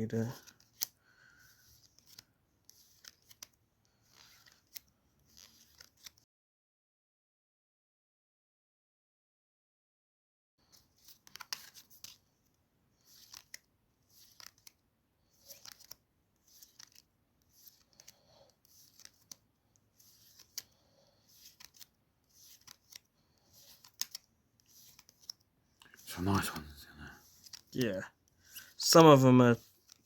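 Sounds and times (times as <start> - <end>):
trading cards sliding and flipping: 0.2 - 6.2, 10.6 - 30.0.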